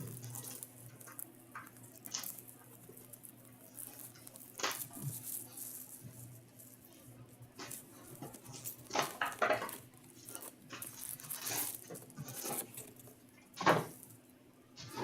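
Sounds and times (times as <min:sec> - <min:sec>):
packs rustling and crinkling: 0:00.0 - 0:07.0, 0:07.6 - 0:14.2.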